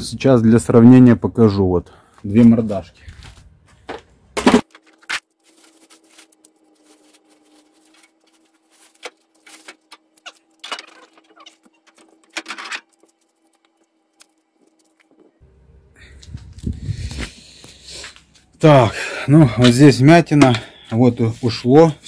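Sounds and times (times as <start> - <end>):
faint steady hum: 1.7 - 19.5.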